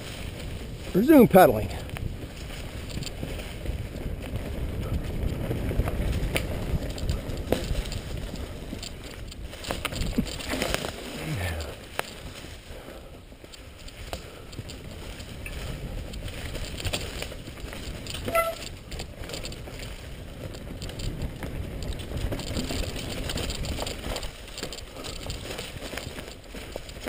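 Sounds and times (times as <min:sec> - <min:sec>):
bike rattling and knocking: 0:00.0 - 0:27.0
tyres rolling through dry leaves: 0:00.0 - 0:27.0.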